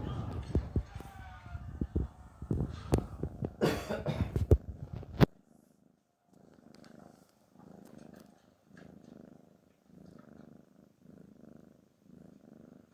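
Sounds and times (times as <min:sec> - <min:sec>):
cat snoring: 0:00.0 - 0:12.9.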